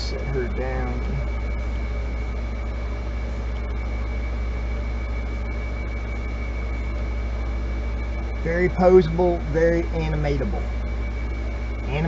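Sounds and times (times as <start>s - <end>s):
high-pitched whine: 0.0s - 12.0s
low hum: 0.0s - 12.0s.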